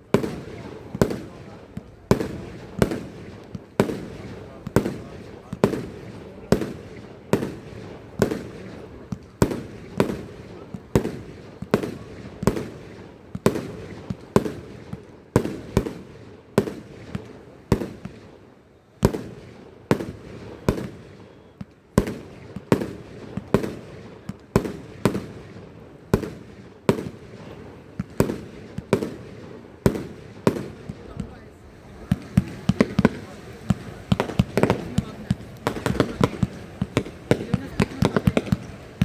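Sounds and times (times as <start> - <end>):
fireworks bangs: 0.0 - 18.4, 19.0 - 39.0.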